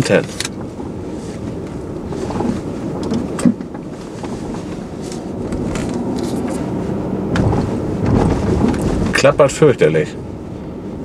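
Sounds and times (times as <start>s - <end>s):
suspension strut knocking and rattling: 0.0s - 6.7s, 7.3s - 9.5s
road noise rumble: 0.0s - 11.0s.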